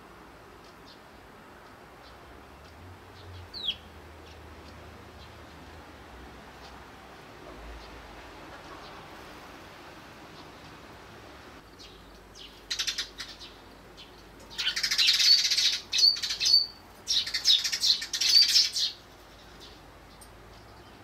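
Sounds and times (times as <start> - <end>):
sparrows chirping: 0.6 - 2.3, 3.0 - 10.9, 11.6 - 21.0.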